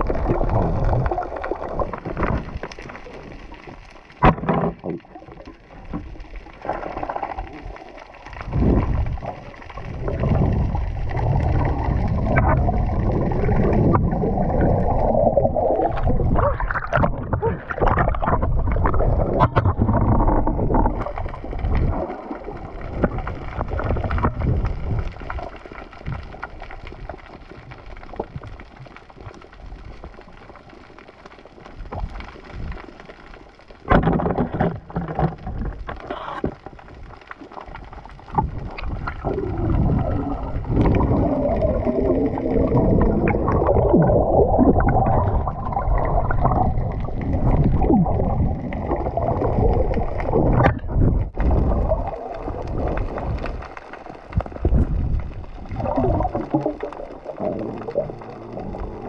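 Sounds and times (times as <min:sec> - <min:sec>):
gurgling bubbles: 0:00.0 - 0:59.0
muffled underwater water noise: 0:00.0 - 0:59.0.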